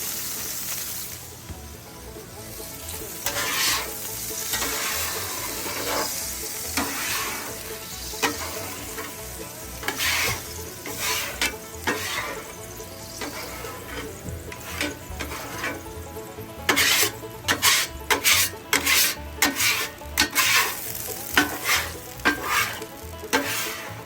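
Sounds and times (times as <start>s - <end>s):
water sizzling on hot griddle: 0.0s - 24.0s
metal scraper scraping griddle: 3.1s - 16.0s, 16.6s - 24.0s.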